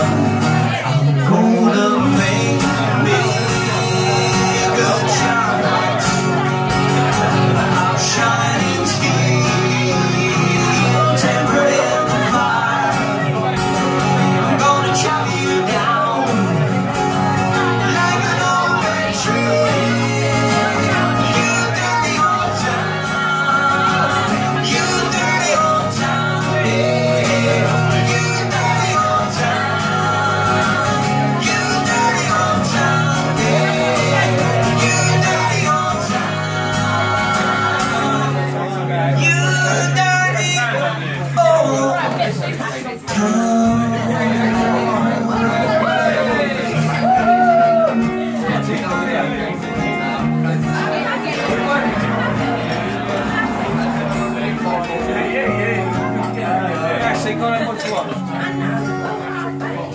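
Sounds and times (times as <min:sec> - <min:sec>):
acoustic guitars strummed: 0:00.0 - 0:59.9
man singing into a microphone: 0:00.0 - 0:59.9.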